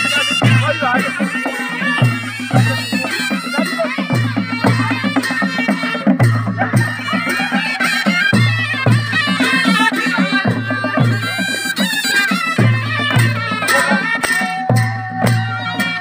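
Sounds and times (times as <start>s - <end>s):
drum strikes: 0.0s - 16.0s
shehnai melody: 0.0s - 16.0s.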